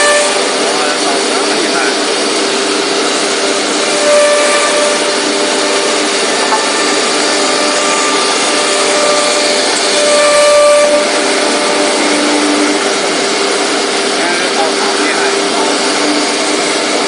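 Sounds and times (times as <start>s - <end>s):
drilling machine running: 0.0s - 17.0s.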